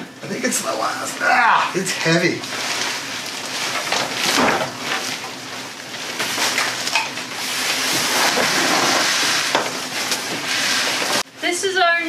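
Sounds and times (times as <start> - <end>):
plastic wrapping crinkling: 0.4 - 11.2.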